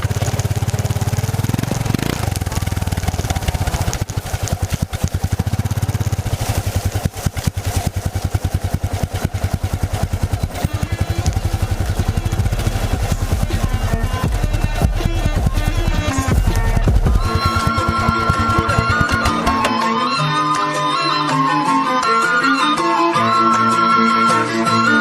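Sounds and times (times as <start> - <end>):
motorcycle engine running: 0.0 - 20.1.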